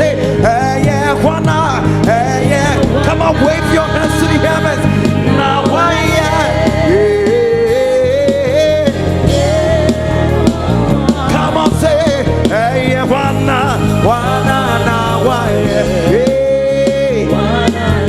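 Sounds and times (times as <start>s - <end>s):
bass: 0.0s - 18.0s
live gospel band playing: 0.0s - 18.0s
singers singing melody: 0.0s - 18.0s.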